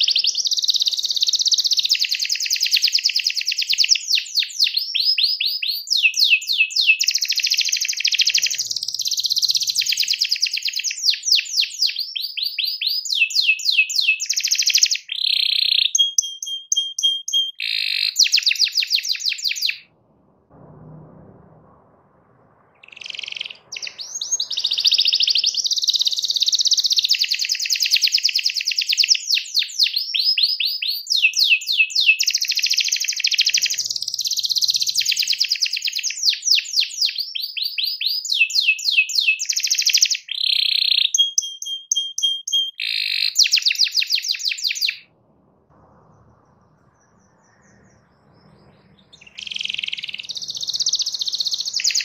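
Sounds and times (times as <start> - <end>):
canary singing trills: 0.0 - 20.0, 22.8 - 52.0.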